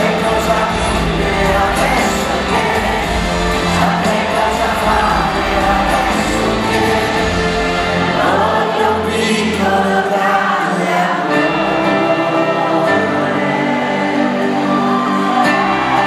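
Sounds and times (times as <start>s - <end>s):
band playing pop ballad: 0.0s - 16.0s
man singing into microphone: 0.0s - 16.0s.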